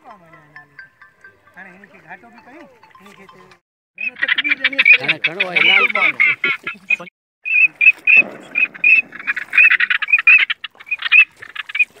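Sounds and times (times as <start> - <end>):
high chirping calls: 0.1 - 12.0.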